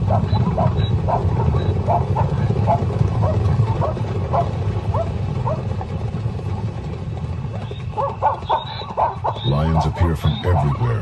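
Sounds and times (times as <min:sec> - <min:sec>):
hyenas yelping: 0:00.0 - 0:05.6, 0:07.5 - 0:11.0
continuous low rumble: 0:00.0 - 0:11.0.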